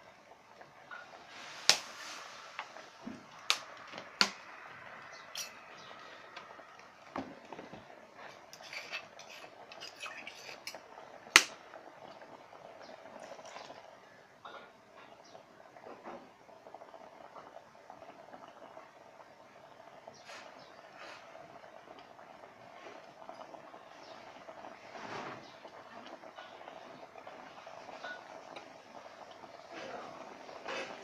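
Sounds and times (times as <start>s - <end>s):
curry bubbling in a pot: 0.0s - 31.0s.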